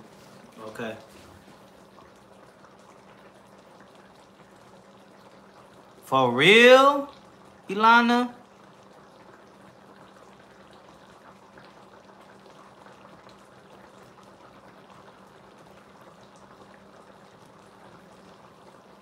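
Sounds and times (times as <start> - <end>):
sauce bubbling and popping: 0.4 - 6.1, 7.0 - 7.7, 8.4 - 19.0.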